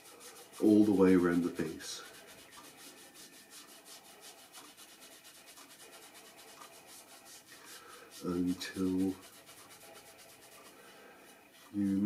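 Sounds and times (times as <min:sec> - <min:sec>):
damp sponge rubbing clay: 0:00.0 - 0:12.0.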